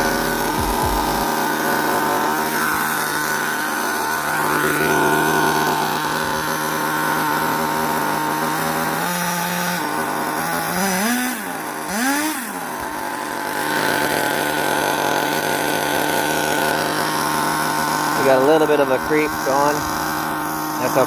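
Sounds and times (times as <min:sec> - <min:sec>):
small nitro engine idling: 0:00.0 - 0:21.0.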